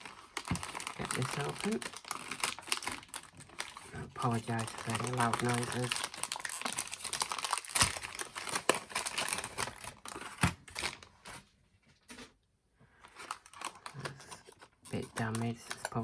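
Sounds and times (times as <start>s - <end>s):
plastic packaging crinkling and tearing: 0.0s - 11.5s, 13.0s - 16.0s.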